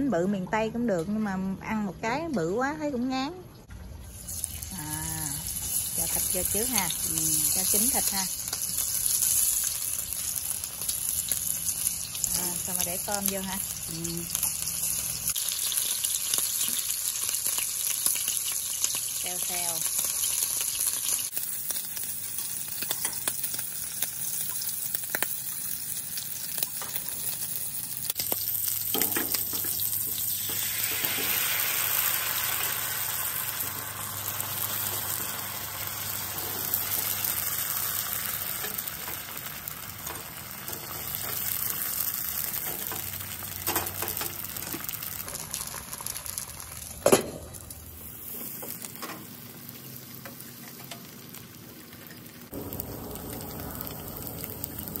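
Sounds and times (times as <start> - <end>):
batter frying in pan: 3.8 - 55.0
meat sizzling in hot oil: 4.1 - 55.0.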